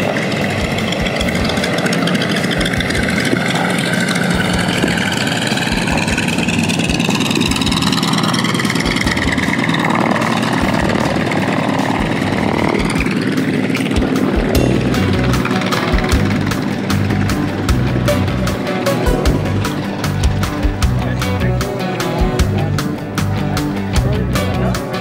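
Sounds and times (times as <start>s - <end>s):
radial aircraft engines running: 0.0s - 25.0s.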